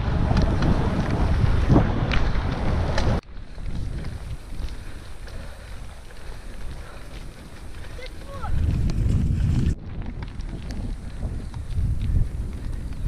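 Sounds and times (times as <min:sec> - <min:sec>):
wind buffeting microphone: 0:00.0 - 0:13.0
steady rustle: 0:00.5 - 0:13.0.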